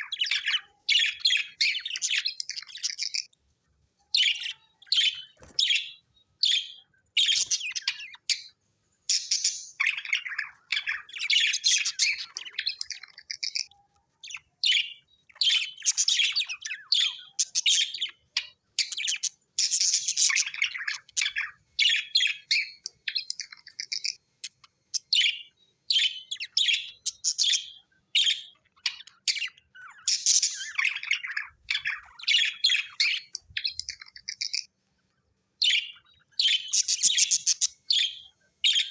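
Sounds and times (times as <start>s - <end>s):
budgerigars chirping and chattering: 0.0s - 3.4s, 4.2s - 34.8s, 35.6s - 38.9s.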